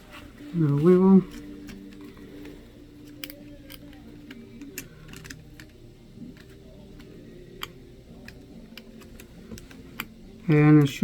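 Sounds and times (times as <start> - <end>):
faint steady low hum: 0.0 - 11.0.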